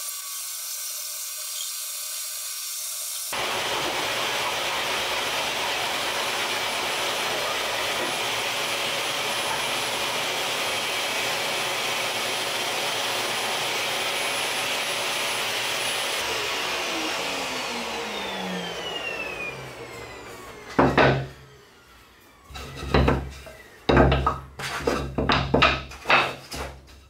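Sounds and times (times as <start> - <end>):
electric workshop machine running: 0.0 - 24.5.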